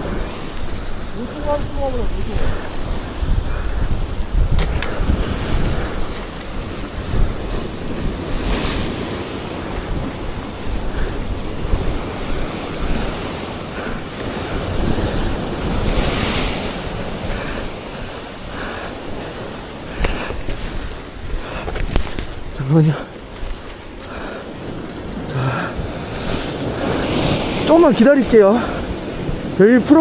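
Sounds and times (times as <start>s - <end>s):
sea waves washing against rocks: 0.0s - 30.0s
wind rumbling on microphone: 0.0s - 30.0s.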